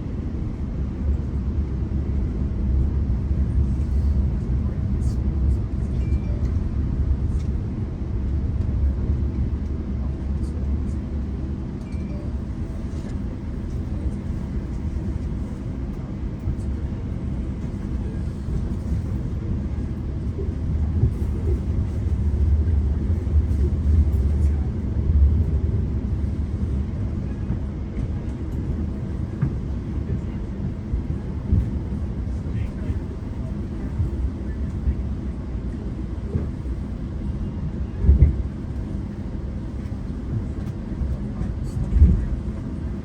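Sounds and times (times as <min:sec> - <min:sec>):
train rumble inside coach: 0:00.0 - 0:43.0.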